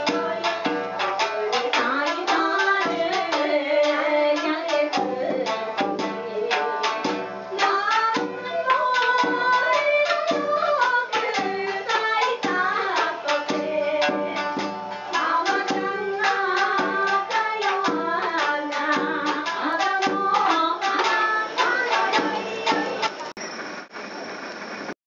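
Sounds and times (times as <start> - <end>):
woman singing folk song: 0.0 - 23.1
shamisen strumming: 0.0 - 23.3.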